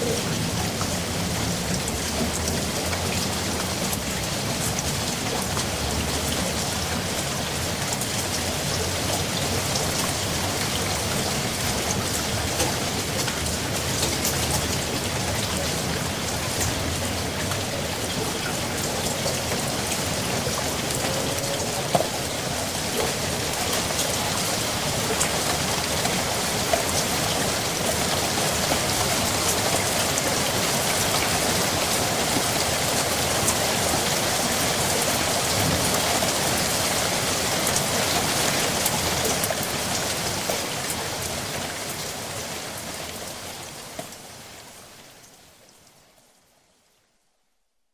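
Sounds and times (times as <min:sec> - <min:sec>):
rain pattering: 0:00.0 - 0:47.5.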